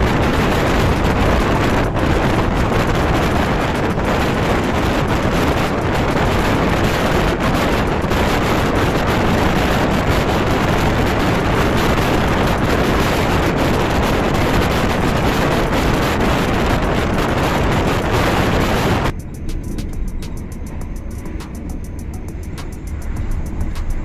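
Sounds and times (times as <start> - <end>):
low train rumble: 0.0 - 24.0
train wheel and rail noise: 0.0 - 24.0
wind buffeting microphone: 0.0 - 24.0.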